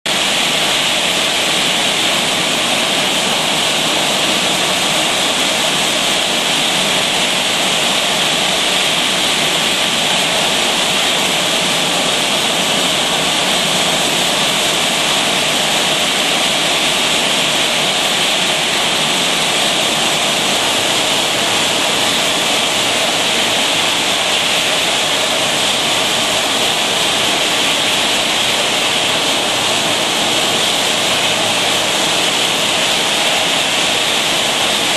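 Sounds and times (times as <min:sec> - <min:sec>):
bottling machine running: 0:00.1 - 0:34.9.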